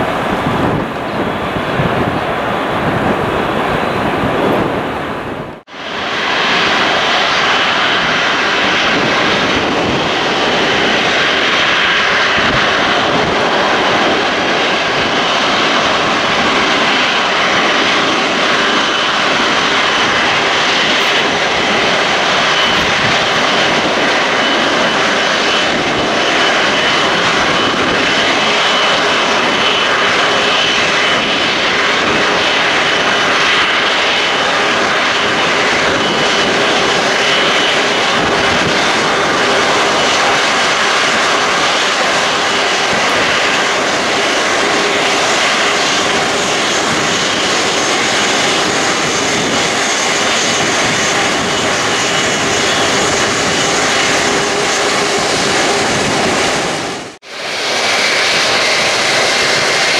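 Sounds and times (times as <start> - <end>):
high whine: 0.0 - 59.9
jet engines roaring: 0.0 - 59.9.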